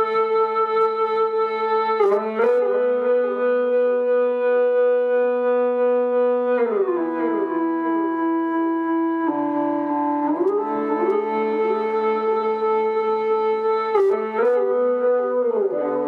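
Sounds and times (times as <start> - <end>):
sliding electric guitar notes: 0.0 - 16.0.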